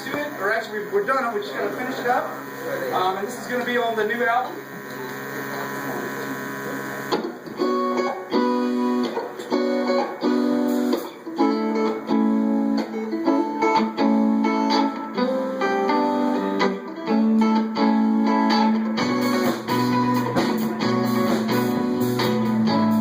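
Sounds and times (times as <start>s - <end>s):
guitar strumming chords: 0.0s - 23.0s.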